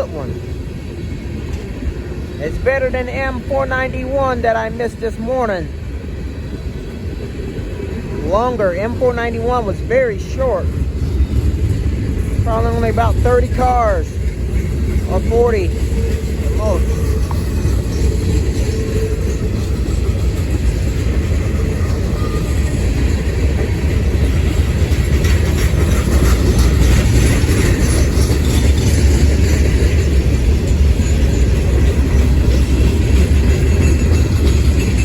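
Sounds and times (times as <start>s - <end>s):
freight train rolling past: 0.0s - 35.0s
wheels clattering over rails: 0.0s - 35.0s.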